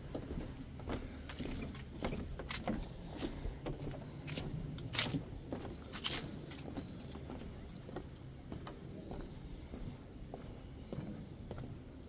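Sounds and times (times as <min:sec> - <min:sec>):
footsteps on wooden boardwalk: 0:00.0 - 0:12.0.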